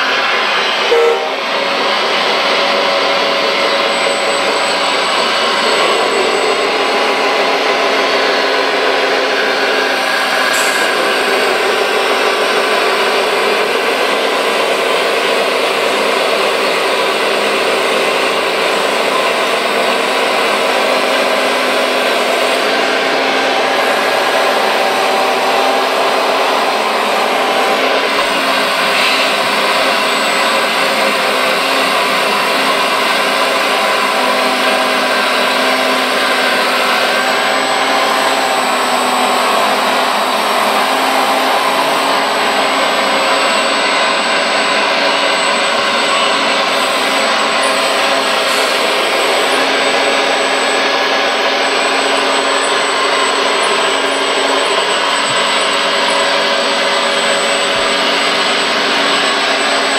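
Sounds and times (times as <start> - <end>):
model excavator hydraulic pump whine: 0.0 - 59.9.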